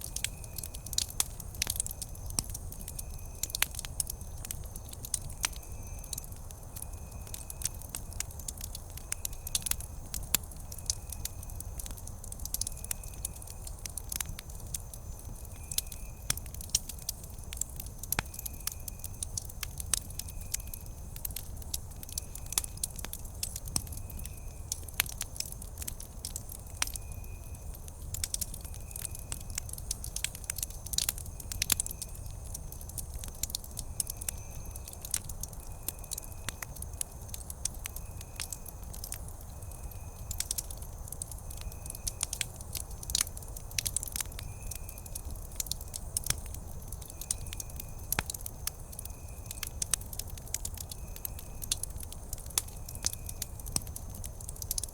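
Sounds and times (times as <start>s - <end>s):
campfire crackling and popping: 0.0s - 54.9s
fire rumbling: 0.0s - 54.9s.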